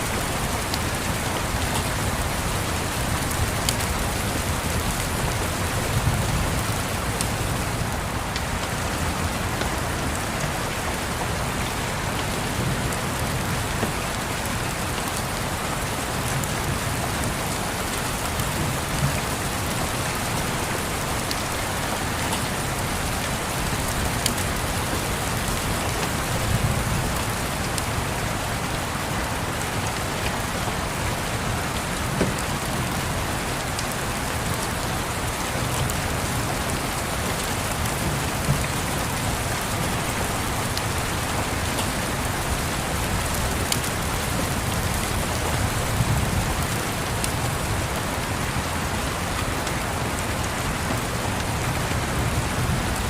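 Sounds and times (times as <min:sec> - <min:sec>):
rain tapping: 0:00.0 - 0:53.0.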